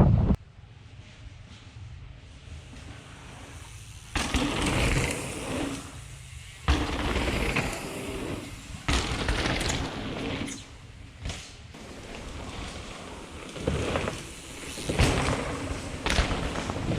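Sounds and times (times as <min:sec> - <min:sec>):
mountain bike trail noise: 0:00.4 - 0:16.9.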